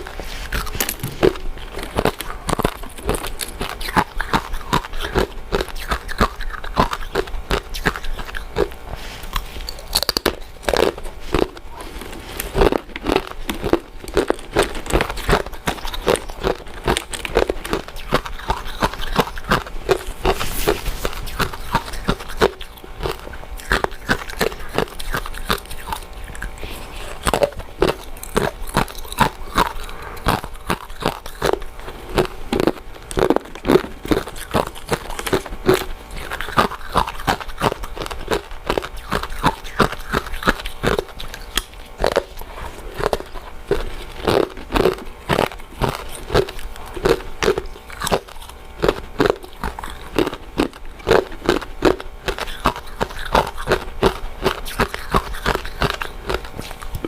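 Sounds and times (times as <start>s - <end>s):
biting and chewing mouth sounds: 0.0s - 57.0s.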